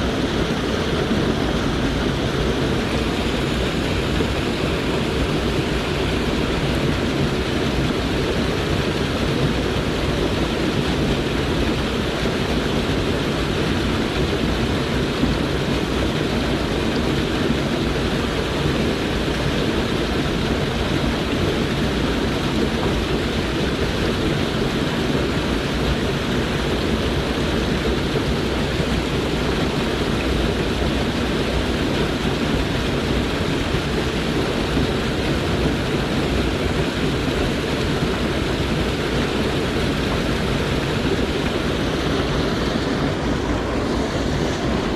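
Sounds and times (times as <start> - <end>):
stream water rushing over rocks: 0.0 - 44.9.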